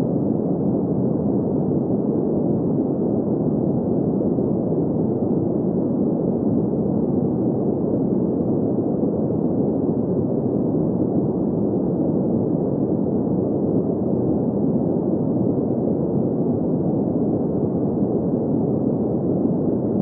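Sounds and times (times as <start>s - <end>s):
muffled steady rushing noise: 0.0s - 20.0s.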